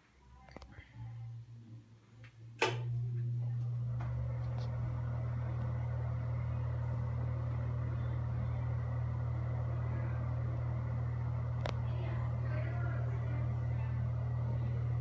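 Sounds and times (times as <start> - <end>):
exhaust fan motor hum: 1.0 - 15.0.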